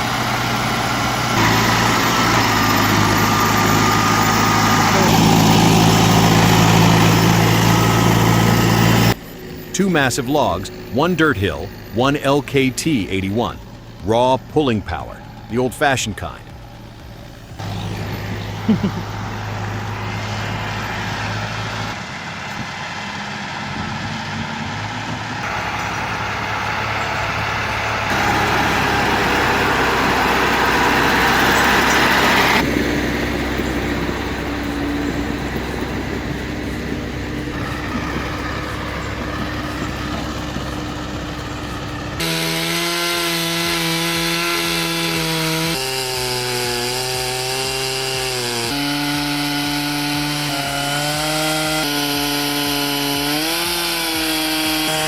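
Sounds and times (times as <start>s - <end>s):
chainsaws cutting wood: 0.0s - 22.0s, 24.7s - 55.0s.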